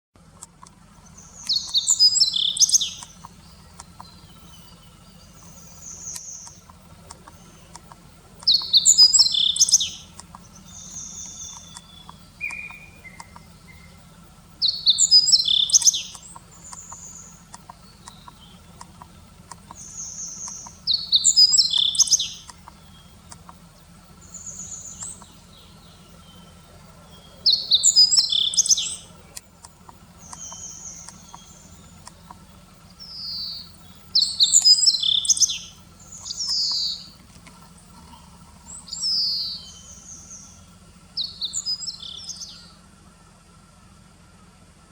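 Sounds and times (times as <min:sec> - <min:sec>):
songbird singing: 0:00.2 - 0:44.9
bird call notes: 0:00.7 - 0:44.8.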